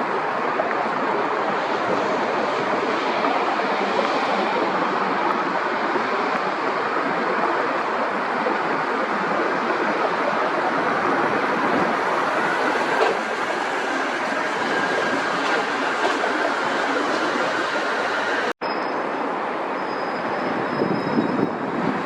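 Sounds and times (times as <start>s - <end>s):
jet engine roar: 0.0s - 18.6s.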